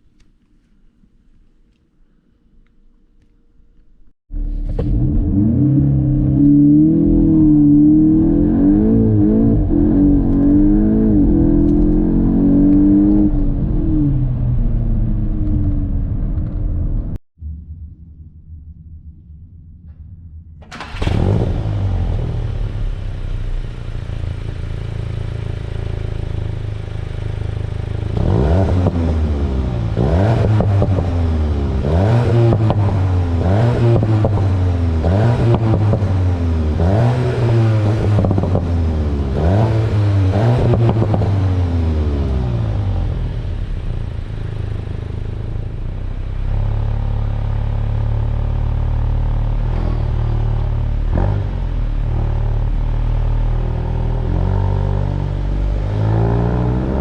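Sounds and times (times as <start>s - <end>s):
car engine idling and revving: 4.3s - 17.2s, 20.6s - 57.0s.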